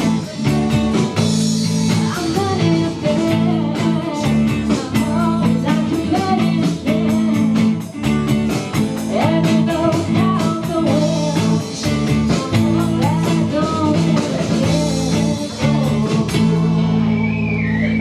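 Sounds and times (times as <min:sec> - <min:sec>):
person singing: 0:00.0 - 0:08.0, 0:08.8 - 0:17.2
steady drum beat: 0:00.0 - 0:17.1
electric guitar: 0:00.0 - 0:18.0.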